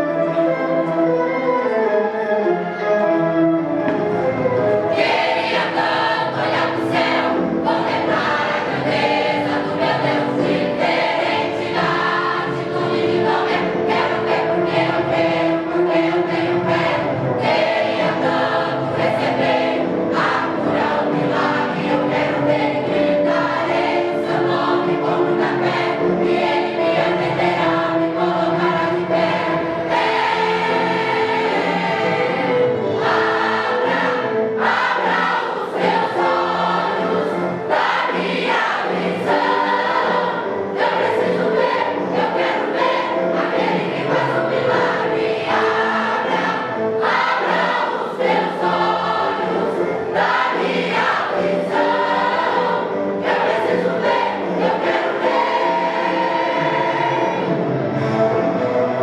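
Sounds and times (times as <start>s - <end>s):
vocal group singing in harmony: 4.0s - 59.0s.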